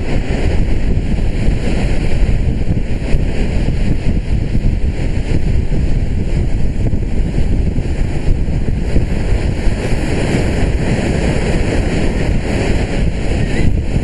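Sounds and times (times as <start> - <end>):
surf breaking on sea wall: 0.0 - 14.0
wind buffeting microphone: 0.0 - 14.0.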